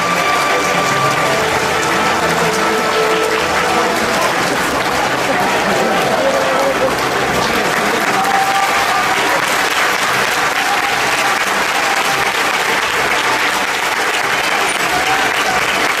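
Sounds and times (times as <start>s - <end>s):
stadium crowd applauding: 0.0s - 16.0s.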